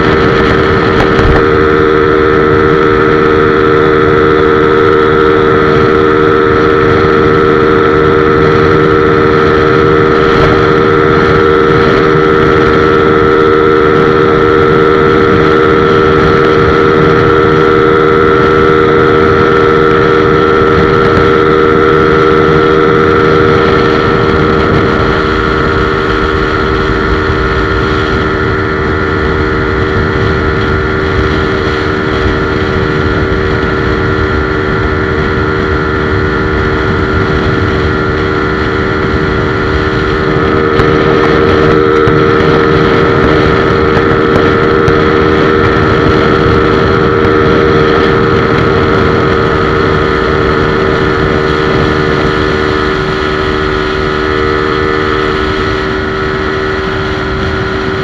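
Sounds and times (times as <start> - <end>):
motorcycle engine at high revs: 0.0 - 58.0
wind noise: 0.0 - 58.0.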